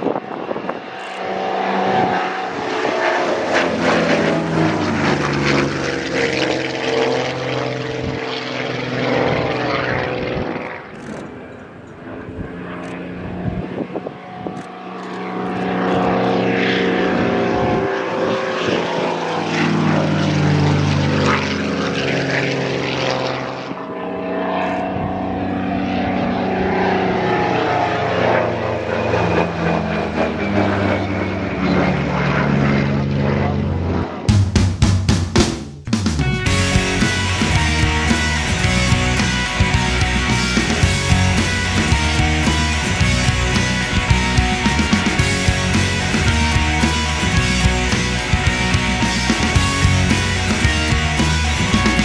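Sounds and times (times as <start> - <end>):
propeller plane engine passing: 0.0 - 52.0.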